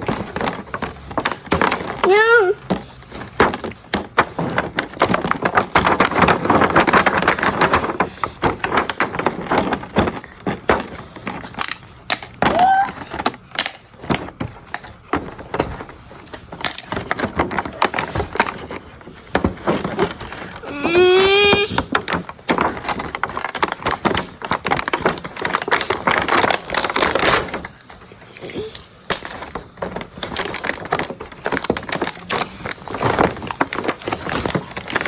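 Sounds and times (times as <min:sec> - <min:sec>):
plastic toy pieces clattering: 0:00.0 - 0:35.0.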